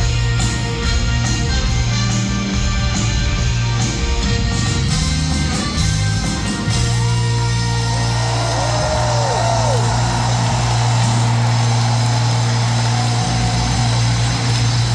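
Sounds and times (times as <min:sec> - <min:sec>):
stadium crowd noise: 0:00.0 - 0:14.9.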